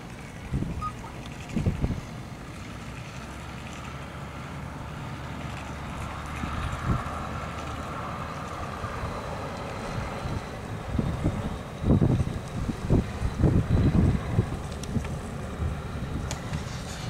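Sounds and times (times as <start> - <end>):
low rumble of vehicle engines: 0.0 - 17.0.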